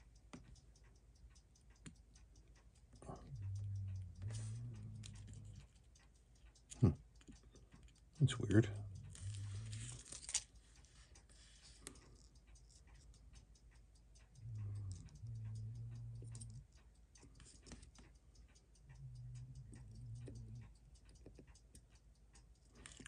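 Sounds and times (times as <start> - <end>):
watch ticking: 0.0 - 23.0.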